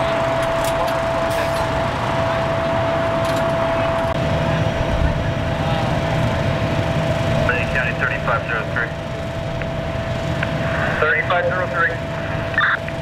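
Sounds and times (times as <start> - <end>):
deep rumble: 0.0 - 13.0
engine running with high whine: 0.0 - 13.0.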